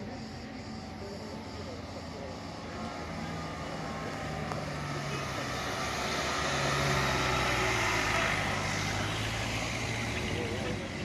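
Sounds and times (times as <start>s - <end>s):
broad rushing noise: 0.0s - 11.0s
steady engine drone: 0.0s - 11.0s.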